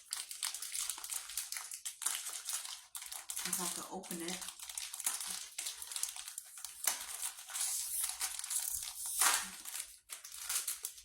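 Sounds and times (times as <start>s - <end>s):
wrapper tearing and crinkling: 0.0s - 11.0s.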